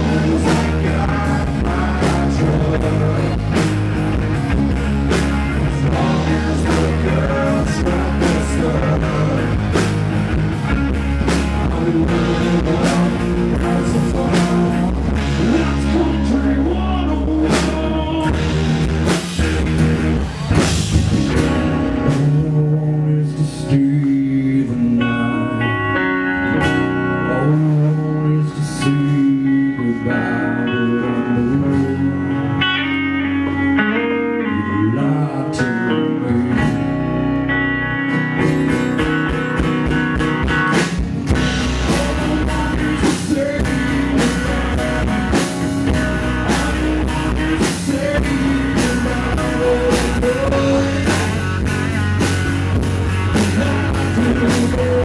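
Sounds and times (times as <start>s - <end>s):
country rock band playing: 0.0s - 55.0s.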